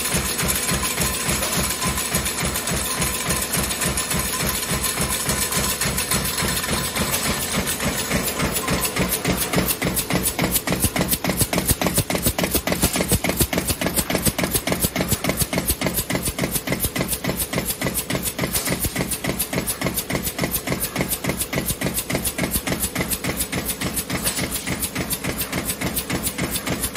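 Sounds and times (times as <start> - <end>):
press stamping rhythmically: 0.0 - 26.9
steady machine hum: 0.0 - 26.9.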